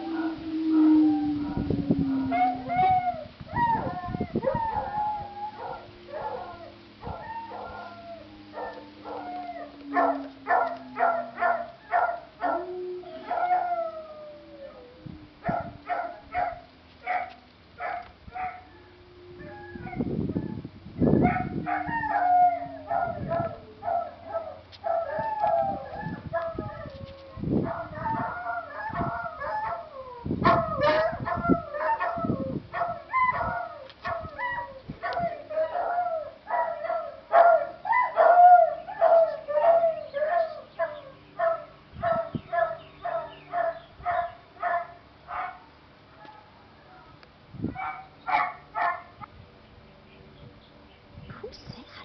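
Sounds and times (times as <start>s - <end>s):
dogs barking and howling: 0.0s - 46.6s, 47.7s - 49.3s.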